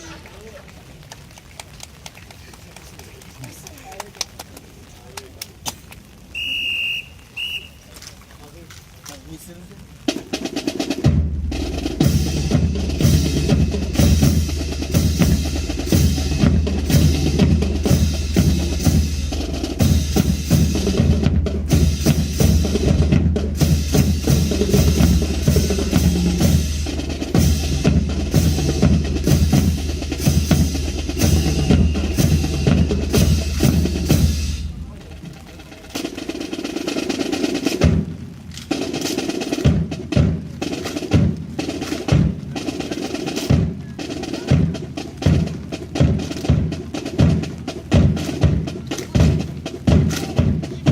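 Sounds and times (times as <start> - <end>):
snare drum strokes and rolls: 9.0 - 50.9
bass drums: 9.8 - 50.9.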